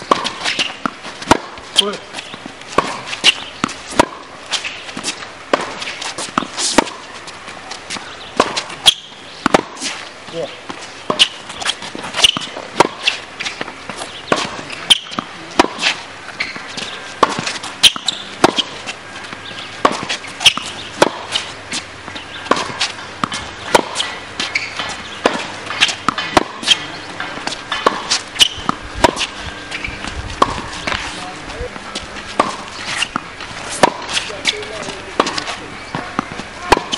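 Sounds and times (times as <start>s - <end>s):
tennis ball struck by rackets: 0.0s - 7.1s, 7.7s - 36.9s.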